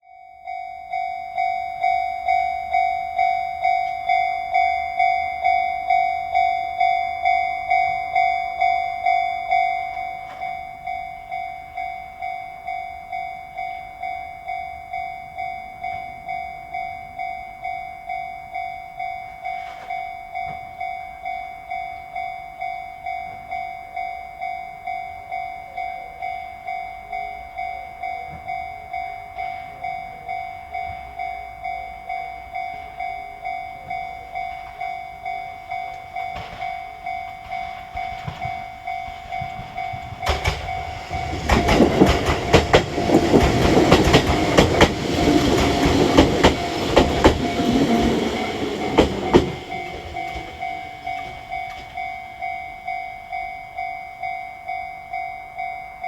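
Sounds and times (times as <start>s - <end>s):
level crossing warning bell ringing: 0.0s - 56.0s.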